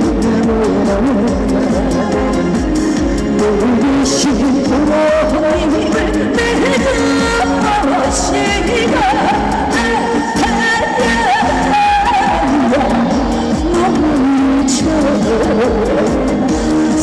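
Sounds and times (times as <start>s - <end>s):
woman singing over backing track: 0.0s - 17.0s.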